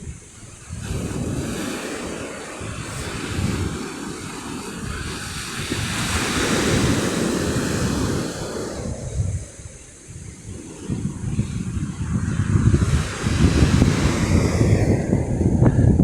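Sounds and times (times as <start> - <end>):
sea waves breaking: 0.0 - 16.0
wind buffeting microphone: 0.0 - 16.0.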